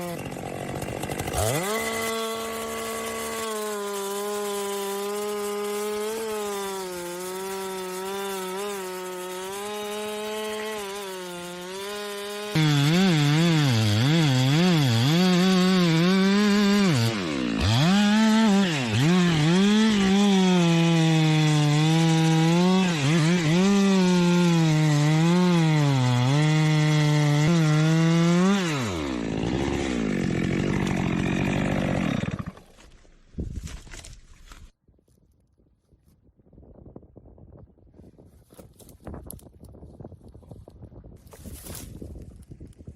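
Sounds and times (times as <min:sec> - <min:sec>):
chainsaw cutting wood: 0:00.0 - 0:34.8.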